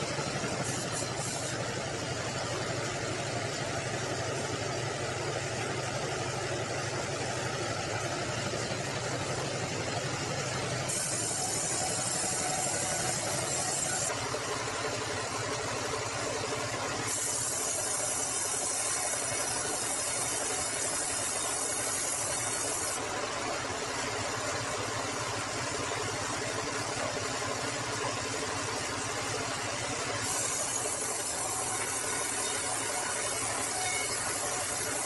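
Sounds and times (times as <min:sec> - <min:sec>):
band saw and engine running: 0:00.0 - 0:35.0.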